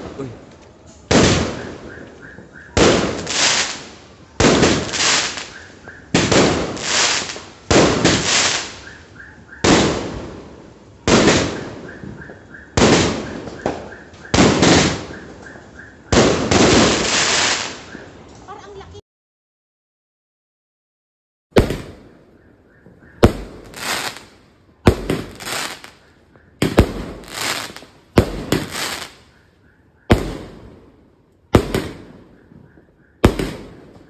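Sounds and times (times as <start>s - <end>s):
fireworks crackle: 0.0s - 15.6s, 16.2s - 18.5s, 21.6s - 29.4s, 30.1s - 34.0s
fireworks bangs: 1.1s - 18.3s, 21.5s - 34.0s.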